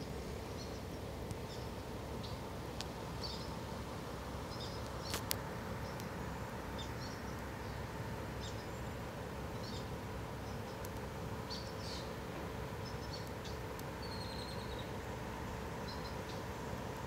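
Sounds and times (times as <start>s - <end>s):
small birds chirping: 0.5s - 2.5s, 3.1s - 3.7s, 4.4s - 16.6s.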